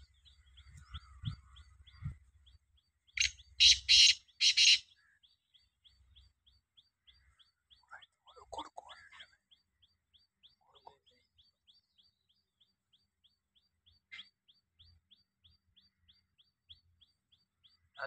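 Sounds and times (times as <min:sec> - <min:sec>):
rapid high bird chirps: 0:00.0 - 0:18.0.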